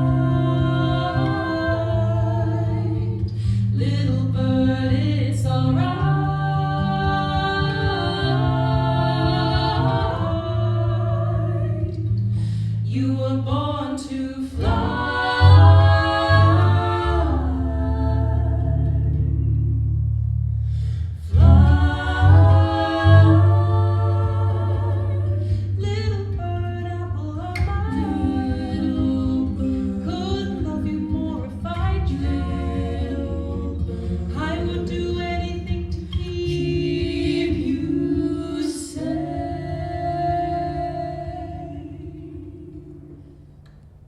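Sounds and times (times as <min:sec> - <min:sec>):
voices singing folk melody: 0:00.0 - 0:20.0, 0:20.7 - 0:43.7.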